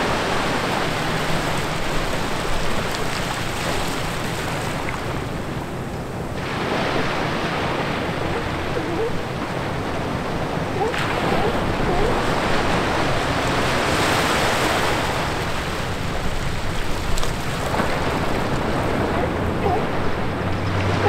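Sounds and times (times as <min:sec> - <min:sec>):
small waves washing over sand: 0:00.0 - 0:21.0.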